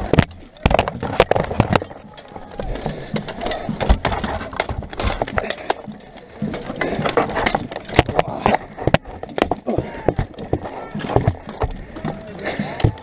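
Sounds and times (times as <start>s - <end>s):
armour and weapons clanking: 0.0s - 13.0s.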